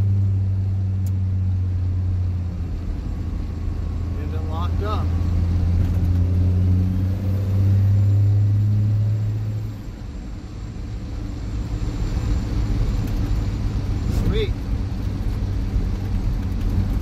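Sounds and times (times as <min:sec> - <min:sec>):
diesel truck cab drone: 0:00.0 - 0:17.0.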